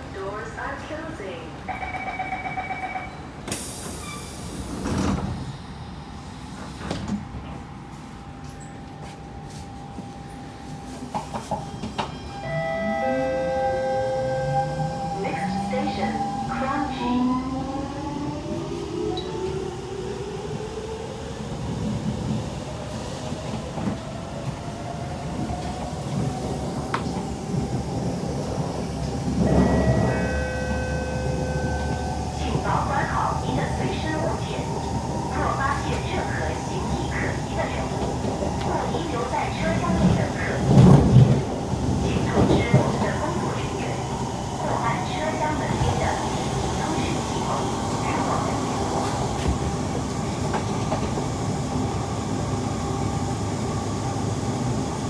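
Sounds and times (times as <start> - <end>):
wheels rumbling on rail: 3.3 - 55.0.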